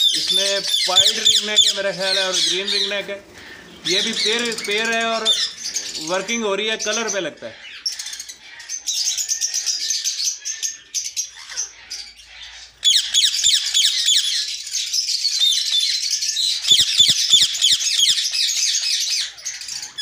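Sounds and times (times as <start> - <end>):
parakeets chirping and screeching: 0.0 - 20.0.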